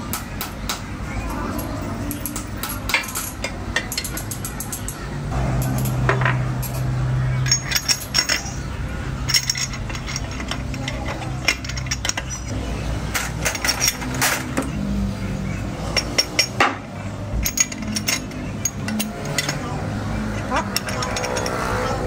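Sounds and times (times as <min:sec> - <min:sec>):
metal gears clinking: 0:01.2 - 0:14.9, 0:15.7 - 0:22.0.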